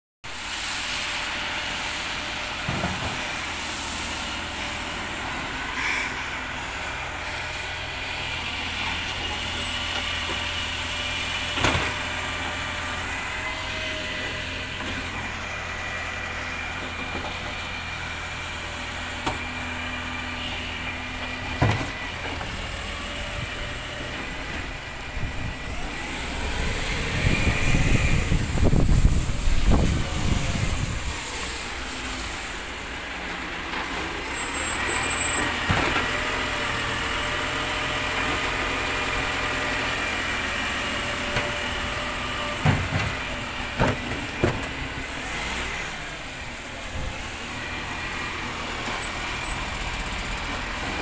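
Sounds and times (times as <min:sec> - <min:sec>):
refuse truck running: 0:00.2 - 0:51.0.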